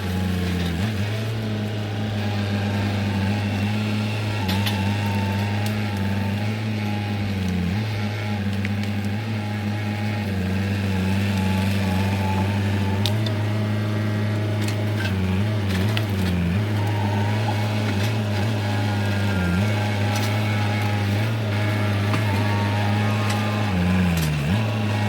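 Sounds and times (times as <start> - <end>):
heavy diesel engine running: 0.0 - 25.0
wood and brush cracking: 0.0 - 25.0.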